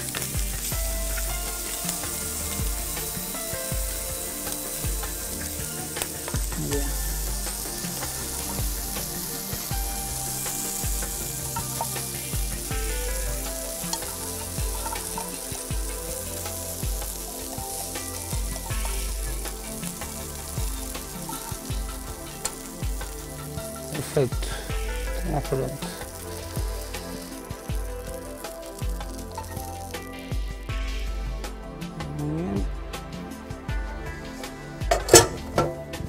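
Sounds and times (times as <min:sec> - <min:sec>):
prawns sizzling in frying pan: 0:00.0 - 0:32.0
soft background music: 0:00.0 - 0:36.0.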